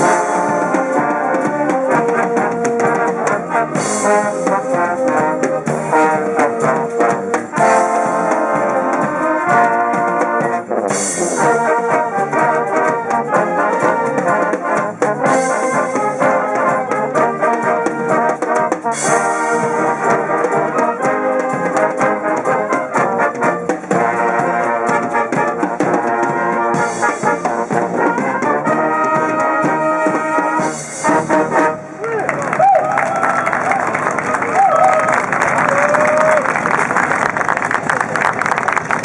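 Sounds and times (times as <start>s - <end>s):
brass orchestra playing: 0.0s - 39.0s
drum kit: 0.0s - 39.0s.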